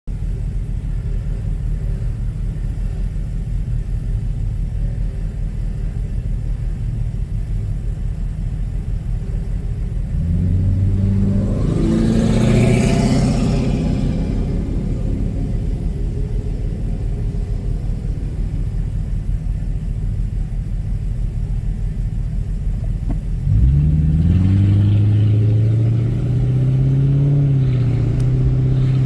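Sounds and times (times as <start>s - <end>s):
car engine idling and revving: 0.1s - 29.0s.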